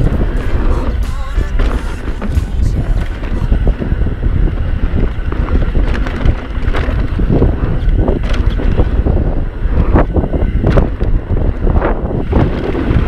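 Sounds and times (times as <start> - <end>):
bike knocks and rattles: 0.0 - 13.0
wind buffeting microphone: 0.0 - 13.0.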